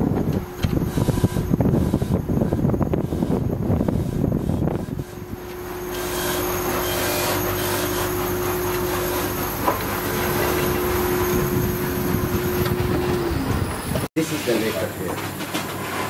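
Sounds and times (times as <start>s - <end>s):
bench polishing machine humming: 0.0s - 15.0s.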